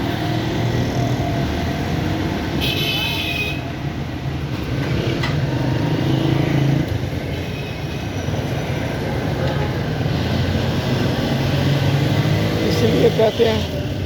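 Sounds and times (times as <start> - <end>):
vehicle engines passing: 0.0 - 14.0.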